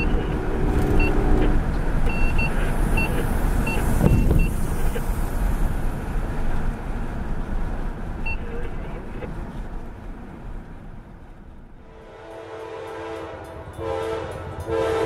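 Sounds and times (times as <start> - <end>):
heavy train clunk: 0.0 - 15.0
train wheels rumbling on rails: 0.0 - 15.0.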